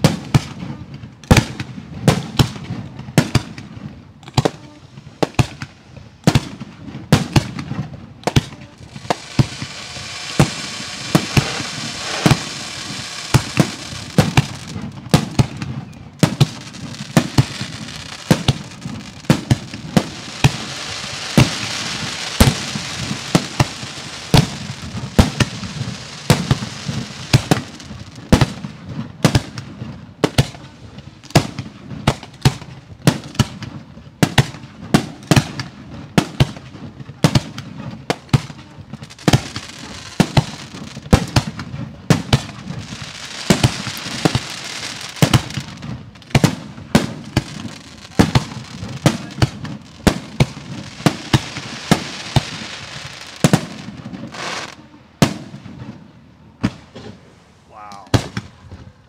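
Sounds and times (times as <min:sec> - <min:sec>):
fireworks crackling hiss: 0:00.0 - 0:58.6
fireworks bangs: 0:00.0 - 0:59.0.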